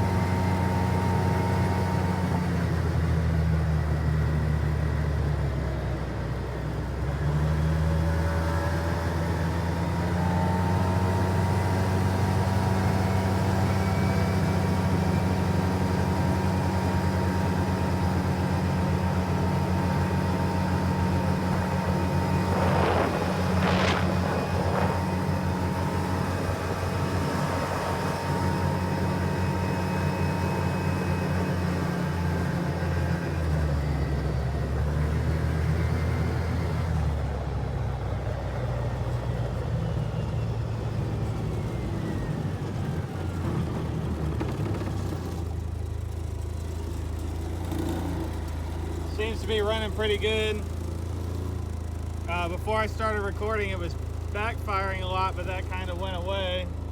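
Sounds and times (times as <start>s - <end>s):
utility vehicle engine running: 0.0s - 56.9s.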